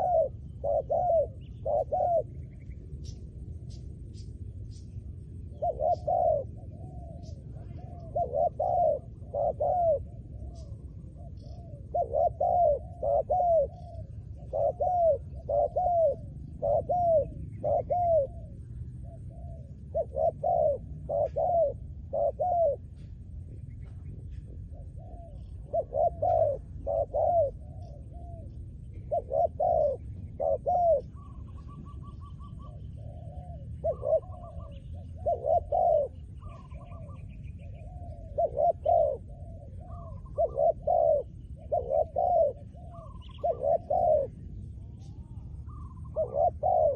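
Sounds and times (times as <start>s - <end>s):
dove cooing: 0.0s - 3.8s, 4.7s - 46.9s.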